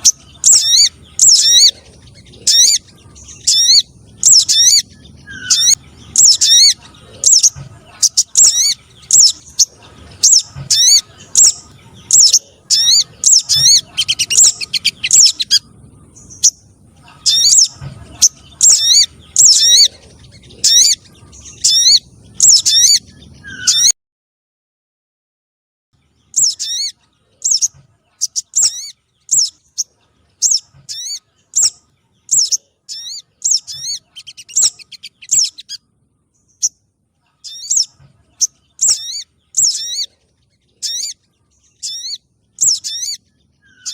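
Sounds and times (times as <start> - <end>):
high sweeping bird chirps: 0.0 - 24.0, 26.2 - 43.9.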